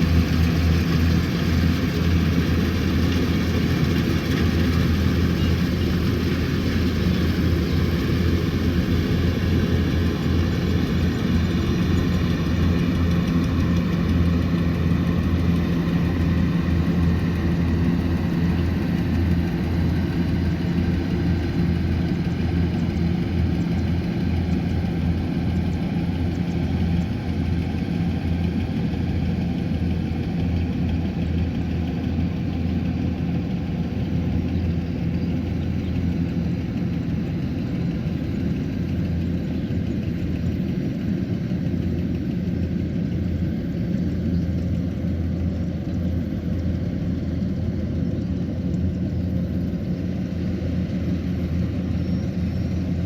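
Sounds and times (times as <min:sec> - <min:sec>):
combine harvester engine droning: 0:00.0 - 0:53.0.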